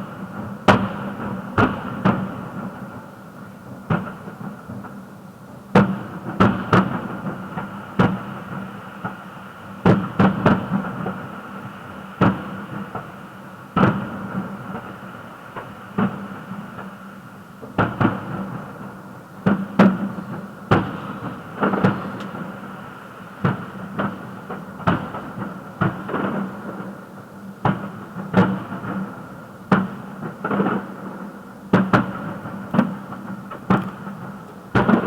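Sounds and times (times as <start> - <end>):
fireworks bangs with echo: 0.0 - 5.0, 5.7 - 35.0.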